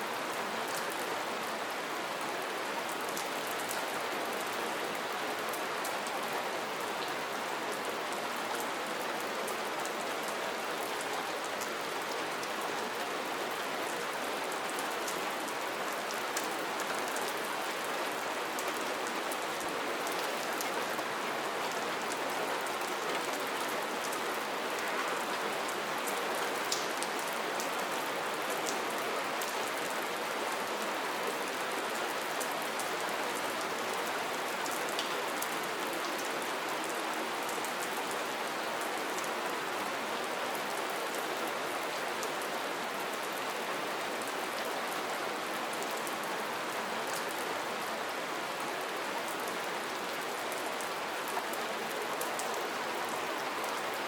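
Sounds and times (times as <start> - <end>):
steady rain pattering: 0.0 - 54.0.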